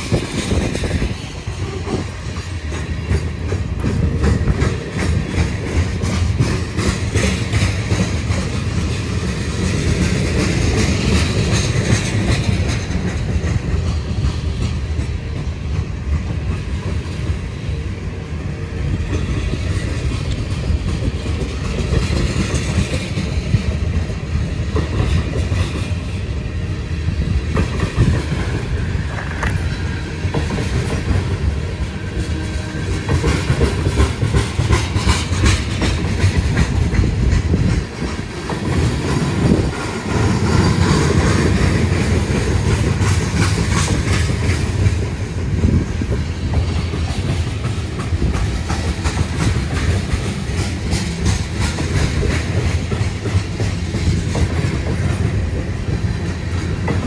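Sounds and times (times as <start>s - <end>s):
wheels clicking over rail joints: 0.0s - 17.8s, 18.8s - 57.0s
train wheels rumbling on rail: 0.0s - 57.0s.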